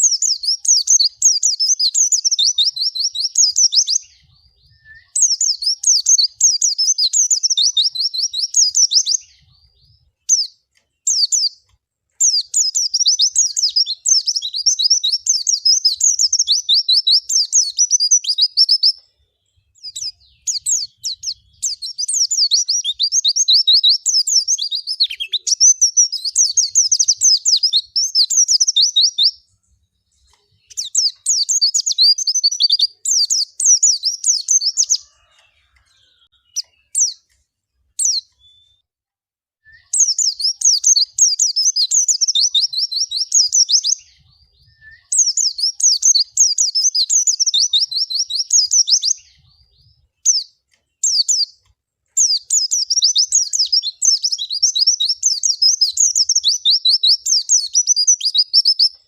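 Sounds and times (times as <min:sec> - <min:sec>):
single bird chirps: 0:00.0 - 0:37.4, 0:38.0 - 0:38.9, 0:39.6 - 0:59.0
bird twittering song: 0:00.0 - 0:38.8, 0:39.7 - 0:59.0.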